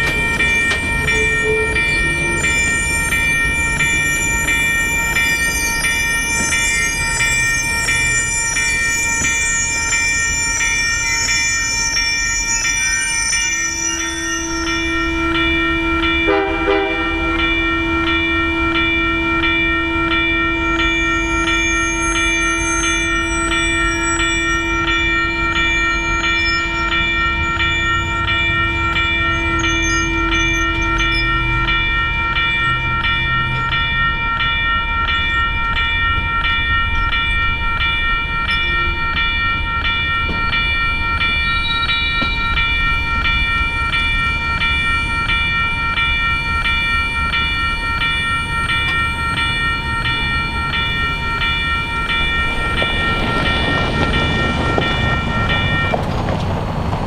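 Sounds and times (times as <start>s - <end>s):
railroad crossing bell ringing: 0.0s - 57.0s
train rumbling past: 0.0s - 57.0s.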